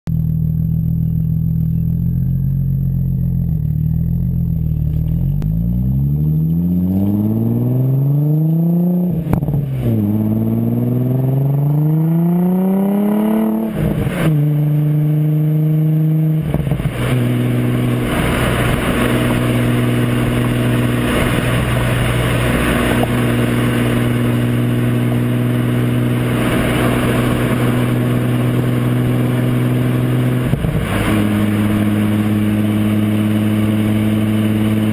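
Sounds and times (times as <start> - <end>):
car engine revving: 0.1 - 34.9
wind and road noise: 2.8 - 34.9.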